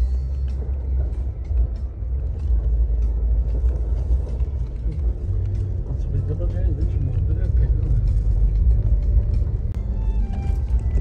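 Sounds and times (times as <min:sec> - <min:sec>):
vehicle rumbling on dirt road: 0:00.0 - 0:11.0.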